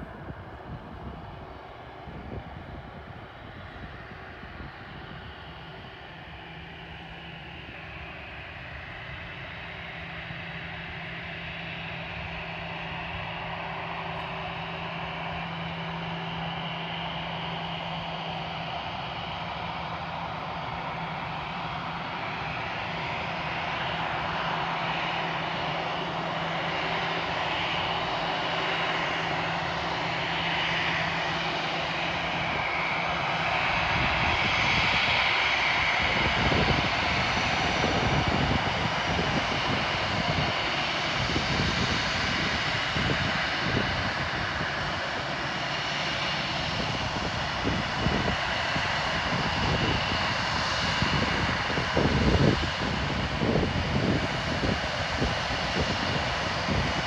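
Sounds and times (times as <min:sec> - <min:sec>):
jet engines whining: 0:00.0 - 0:57.0
wind buffeting microphone: 0:00.0 - 0:57.0.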